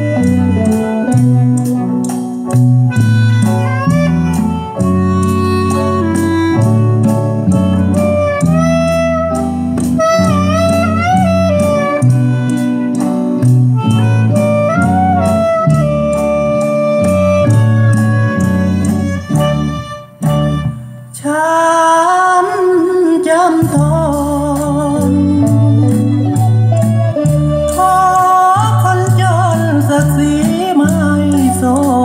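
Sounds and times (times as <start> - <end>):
instrumental music over loudspeakers: 0.0 - 32.0.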